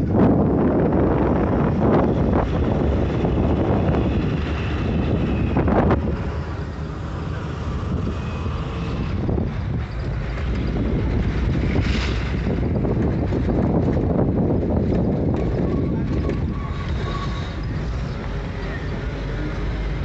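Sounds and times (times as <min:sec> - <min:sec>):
bus engine drone: 0:00.0 - 0:20.0
road and wind noise: 0:00.0 - 0:20.0.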